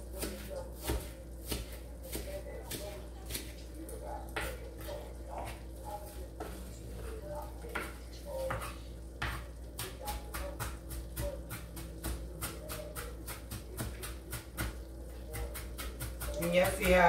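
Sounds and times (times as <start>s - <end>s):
knife chopping onion: 0.0s - 17.0s.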